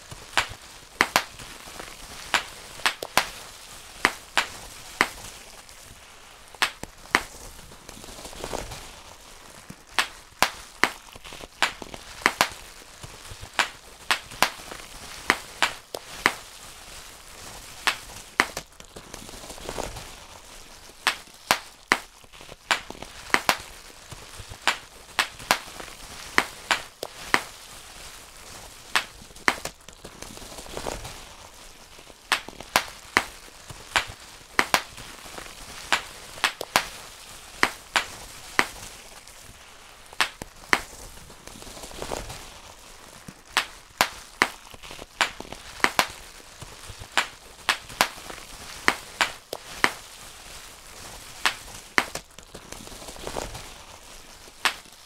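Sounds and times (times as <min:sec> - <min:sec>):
bubble wrap popping: 0:00.0 - 0:55.0
plastic rustling: 0:00.0 - 0:55.0.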